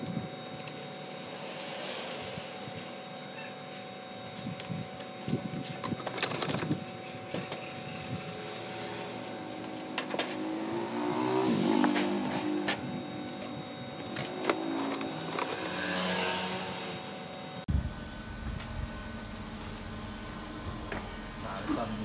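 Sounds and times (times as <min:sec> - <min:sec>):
motor humming: 0:03.8 - 0:22.0.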